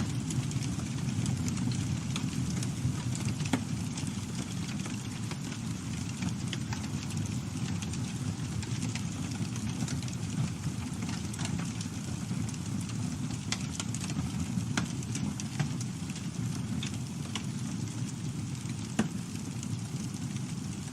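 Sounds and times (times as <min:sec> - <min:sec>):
burning wood crackling and popping: 0:00.0 - 0:20.9
campfire rumble: 0:00.0 - 0:20.9.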